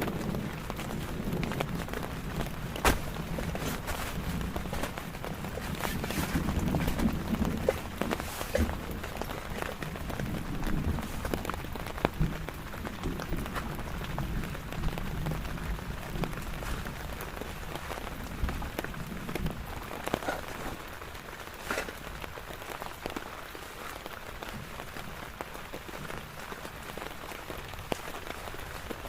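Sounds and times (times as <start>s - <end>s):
rain drops striking: 0.0s - 29.0s.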